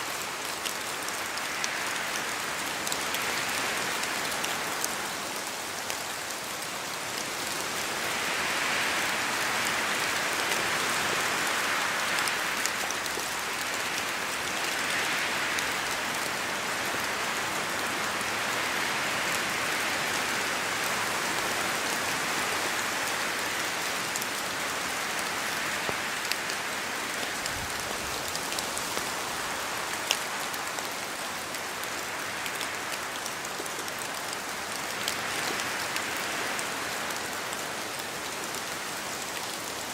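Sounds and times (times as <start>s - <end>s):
steady rain in forest: 0.0s - 39.9s
wind gusting through trees: 0.0s - 39.9s.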